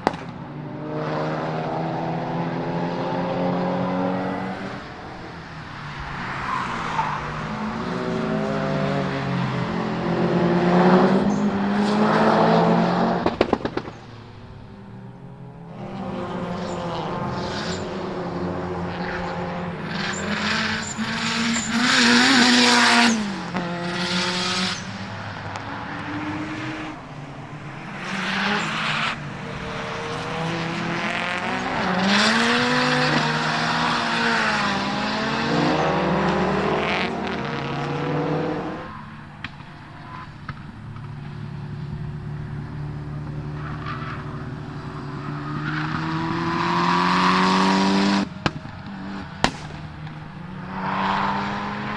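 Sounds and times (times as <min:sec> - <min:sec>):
rally car engines revving: 0:00.0 - 0:51.9.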